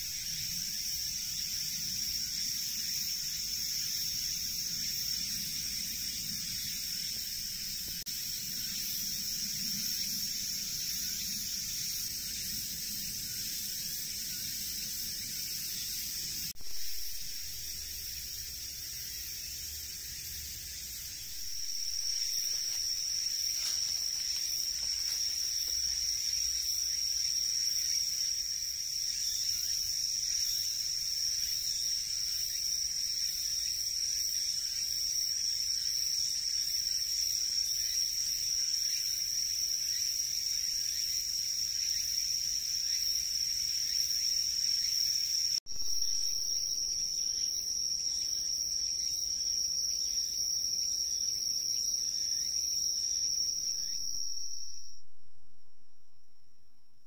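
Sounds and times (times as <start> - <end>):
crickets trilling: 0.0 - 55.1.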